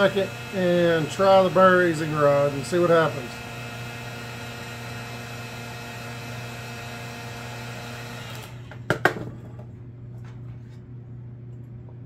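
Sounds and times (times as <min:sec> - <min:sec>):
heat gun fan whirring: 0:00.0 - 0:12.0.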